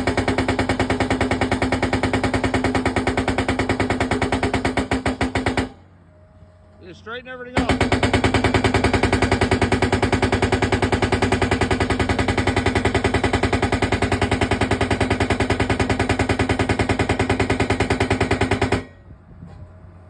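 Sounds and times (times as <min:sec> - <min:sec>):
pile driver hammering: 0:00.0 - 0:05.8, 0:07.6 - 0:19.0.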